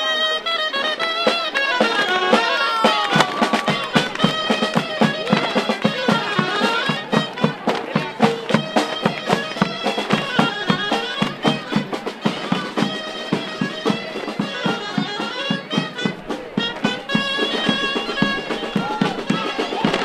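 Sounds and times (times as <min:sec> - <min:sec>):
wind instrument melody: 0:00.0 - 0:20.0
quick steady drum beat: 0:01.2 - 0:20.0.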